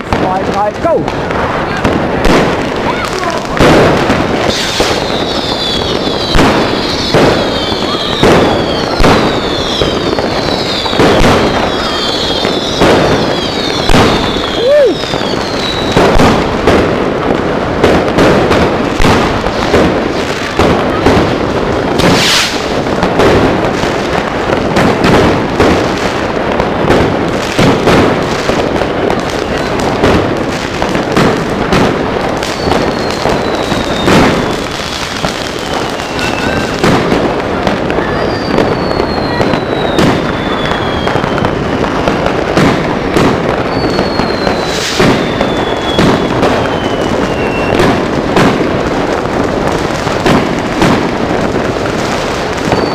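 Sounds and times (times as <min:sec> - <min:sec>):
fireworks crackling bangs: 0:00.0 - 0:52.9
fireworks falling whistles: 0:00.0 - 0:52.9.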